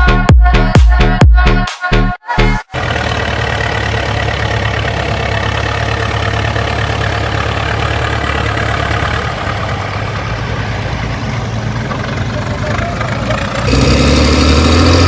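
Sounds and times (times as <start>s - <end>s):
second tractor engine: 2.7s - 15.0s
tractor diesel engine idling: 2.7s - 15.0s.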